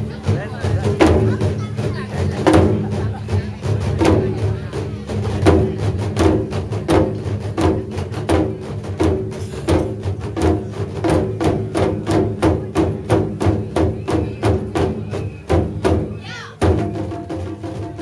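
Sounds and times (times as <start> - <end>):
taiko drums ensemble: 0.0 - 18.0.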